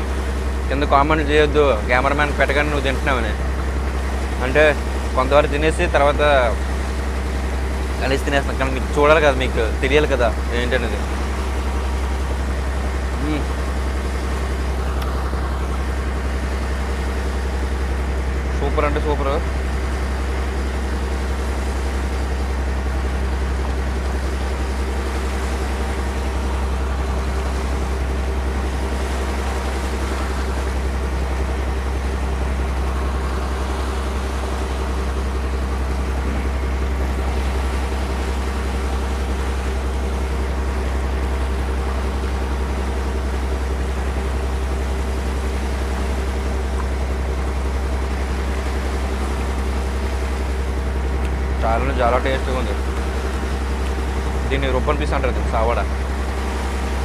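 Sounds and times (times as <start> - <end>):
boat diesel engine droning: 0.0 - 57.0
water washing past hull: 0.0 - 57.0.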